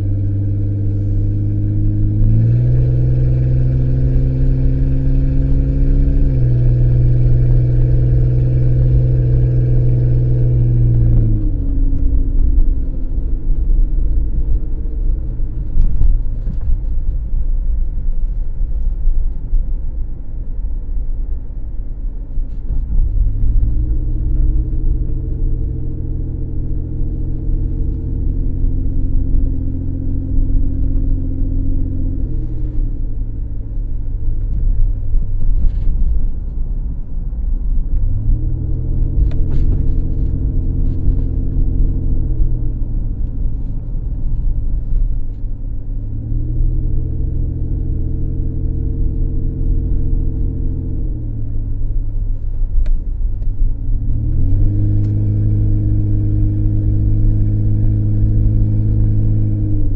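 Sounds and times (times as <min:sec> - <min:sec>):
car engine tone: 0:00.0 - 0:17.3, 0:22.4 - 0:59.9
road rumble: 0:00.0 - 0:59.9.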